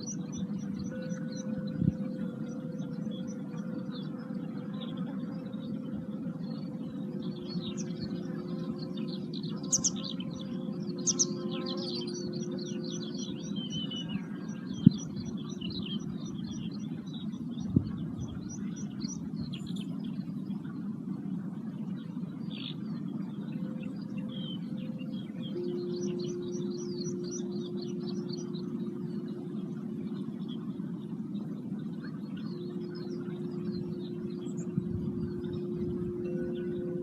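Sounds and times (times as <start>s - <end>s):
faint held tone: 0.0s - 20.0s, 23.2s - 37.0s
birds chirping and singing: 0.0s - 37.0s
steady low hum: 0.0s - 37.0s.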